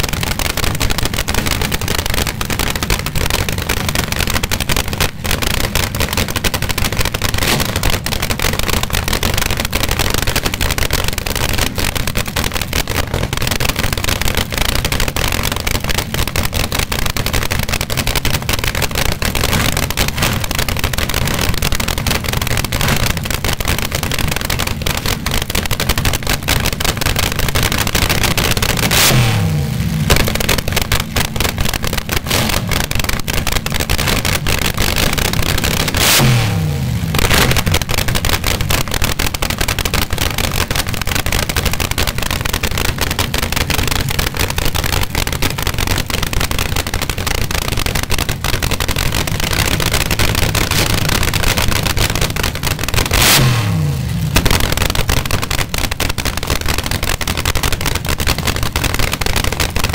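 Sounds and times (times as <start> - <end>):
dragster engines idling crackling: 0.0 - 59.9.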